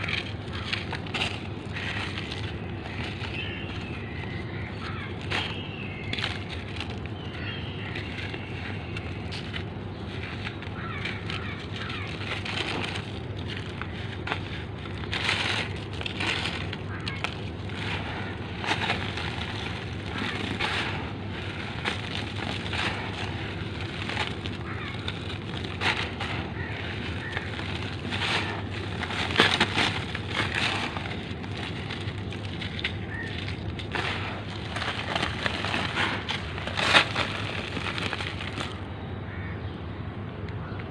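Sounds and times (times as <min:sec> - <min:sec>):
gritty crunchy crackling of cement: 0:00.0 - 0:39.0.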